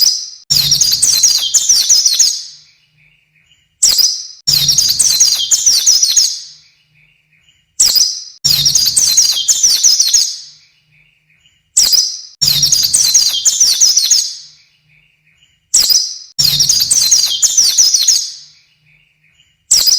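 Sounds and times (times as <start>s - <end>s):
bird call and twittering: 0.0s - 19.9s.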